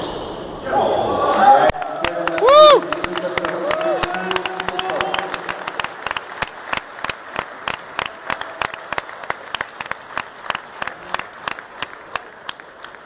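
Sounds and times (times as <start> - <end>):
sparse audience applauding: 1.6 - 13.0
person clapping steady beat: 2.0 - 13.0.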